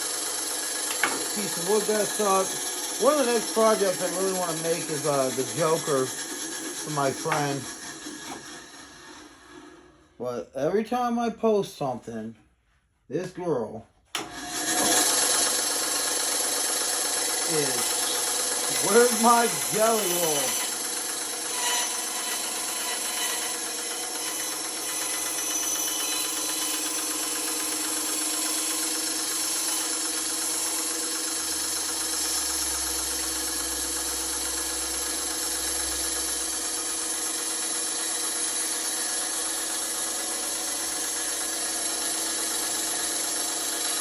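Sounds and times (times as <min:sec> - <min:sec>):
bandsaw cutting wood: 0:00.0 - 0:10.0, 0:14.2 - 0:44.0.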